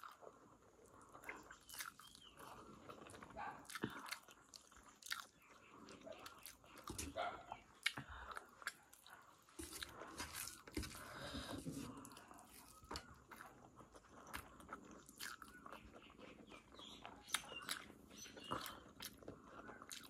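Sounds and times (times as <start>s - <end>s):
faint chewing: 0.0s - 20.0s.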